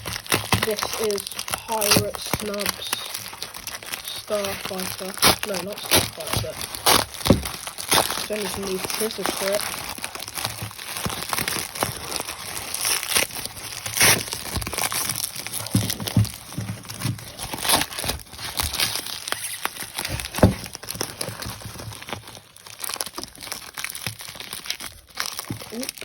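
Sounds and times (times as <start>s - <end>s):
bubble wrap crinkling: 0.0s - 26.0s
bubble wrap snapping and tearing: 0.0s - 26.0s.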